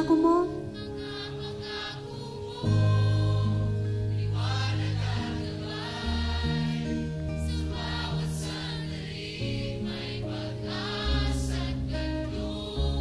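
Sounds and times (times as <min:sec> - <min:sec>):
worship band playing slow song: 0:00.0 - 0:13.0.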